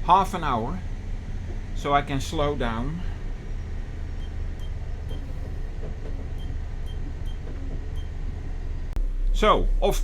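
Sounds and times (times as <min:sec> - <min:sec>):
boat diesel engine drone: 0:00.0 - 0:10.0.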